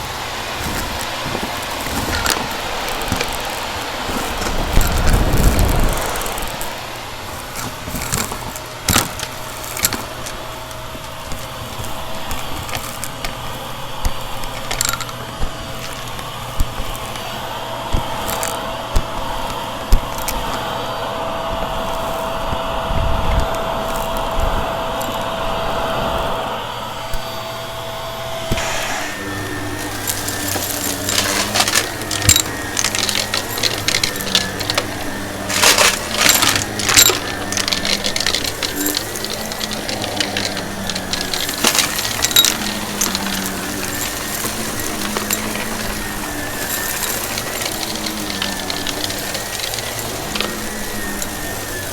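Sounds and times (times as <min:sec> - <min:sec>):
debris rattling through vacuum: 0:00.0 - 0:20.8, 0:28.5 - 0:51.9
vacuum cleaner whine: 0:00.0 - 0:51.9.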